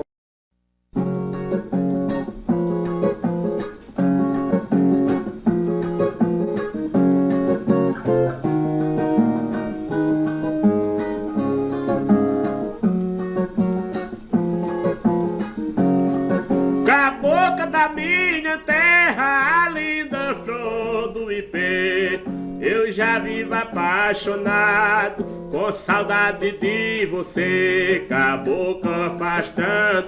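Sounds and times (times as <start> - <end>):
plucked and strummed guitar: 0.9 - 30.0.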